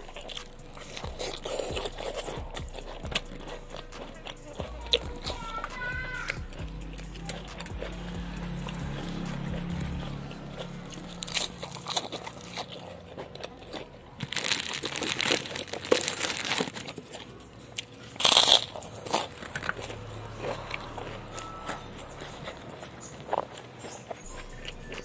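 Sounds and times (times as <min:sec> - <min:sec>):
lettuce crunching: 0:00.0 - 0:25.0
wet chewing clicks: 0:00.0 - 0:25.0.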